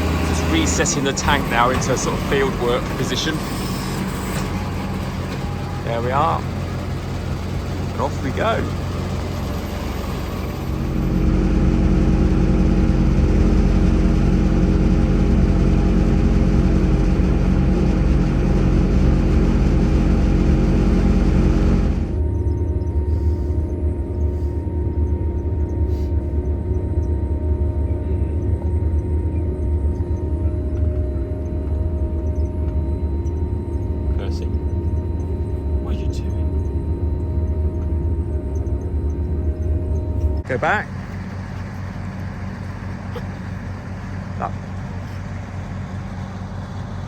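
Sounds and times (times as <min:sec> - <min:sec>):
faint steady whine: 0:00.0 - 0:47.0
harvester engine running under load: 0:00.0 - 0:47.0
low engine drone: 0:00.0 - 0:47.0.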